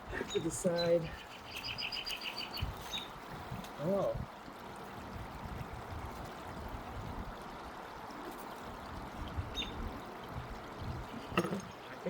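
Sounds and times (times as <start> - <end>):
pond water trickling: 0.0 - 12.0.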